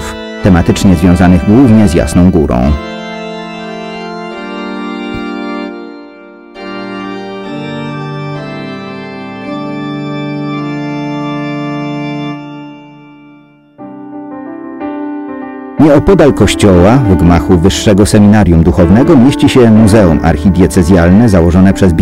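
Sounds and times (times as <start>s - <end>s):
slow organ music: 0.0s - 22.0s.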